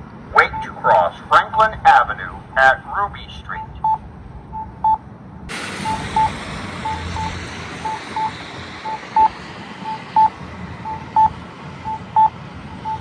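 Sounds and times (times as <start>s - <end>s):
street noise: 0.0s - 13.0s
pedestrian signal beeps: 0.4s - 5.0s, 5.8s - 13.0s.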